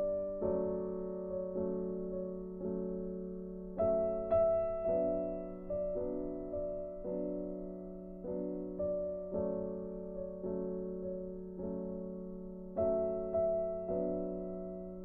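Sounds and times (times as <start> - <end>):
gentle piano-like chords: 0.0 - 15.0.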